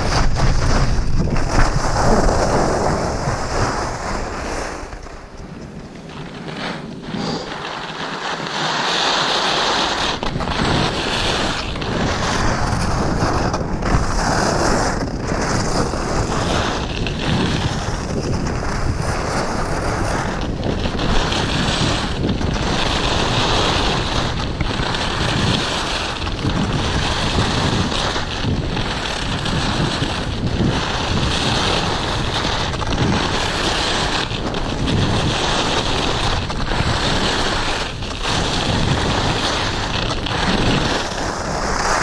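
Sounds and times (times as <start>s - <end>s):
wind buffeting microphone: 0.0s - 8.6s, 9.6s - 42.0s
skis scraping over snow: 0.0s - 42.0s.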